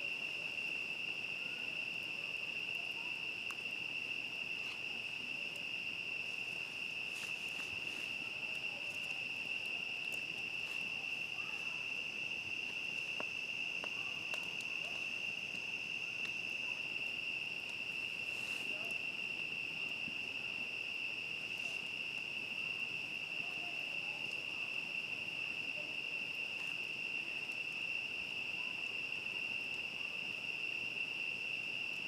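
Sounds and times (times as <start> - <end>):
campfire crackling: 0.0 - 32.0
crickets chirring: 0.0 - 32.0.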